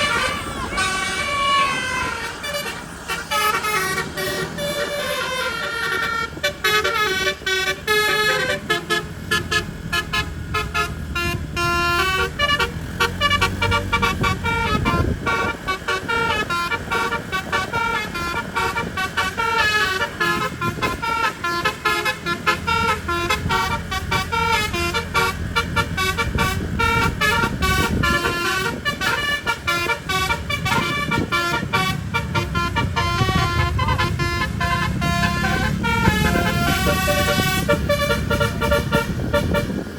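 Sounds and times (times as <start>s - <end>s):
multi-trumpet air horn melody: 0.0s - 39.9s
road and engine rumble: 0.0s - 39.9s.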